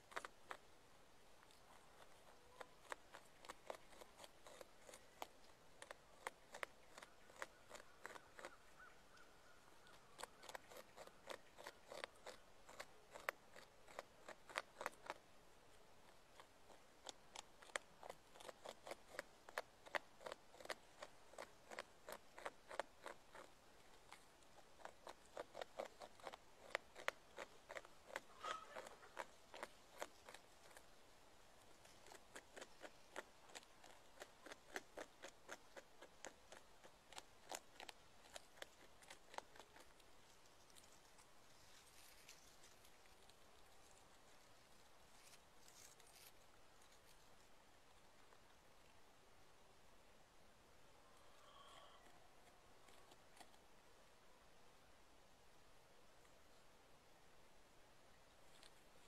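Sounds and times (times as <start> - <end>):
beaver gnawing wood: 0.0 - 49.2, 51.9 - 53.9, 58.2 - 59.0.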